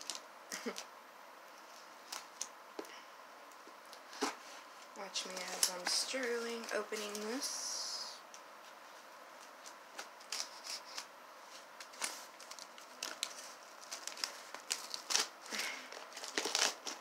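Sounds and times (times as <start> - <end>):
packaging crackling and rustling: 0.0 - 0.9, 1.6 - 2.9, 3.5 - 7.6, 8.3 - 17.0.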